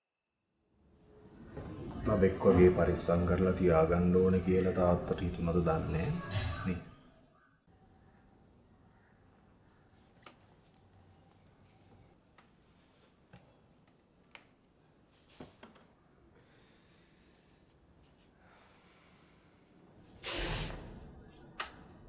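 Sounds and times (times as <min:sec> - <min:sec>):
cricket trilling: 0:00.1 - 0:22.0.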